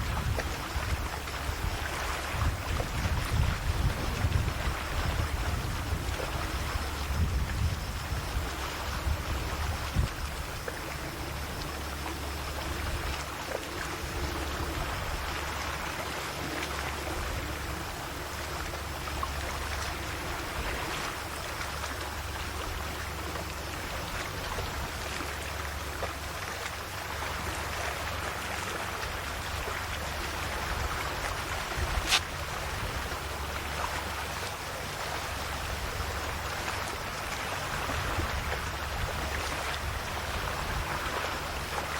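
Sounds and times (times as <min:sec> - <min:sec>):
waves lapping gently: 0:00.0 - 0:41.9.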